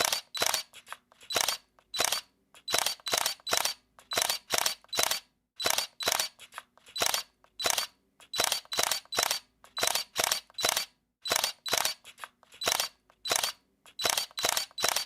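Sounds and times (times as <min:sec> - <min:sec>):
camera shutter clicking: 0:00.0 - 0:15.0.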